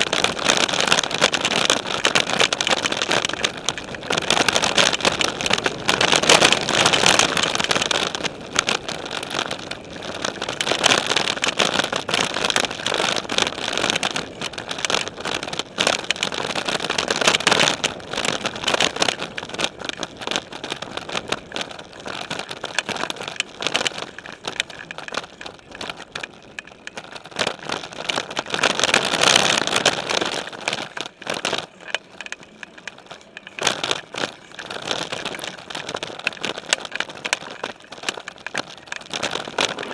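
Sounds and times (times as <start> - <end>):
bike frame rattling: 0.0 - 39.9
tyres rolling on dirt and gravel: 0.0 - 39.9.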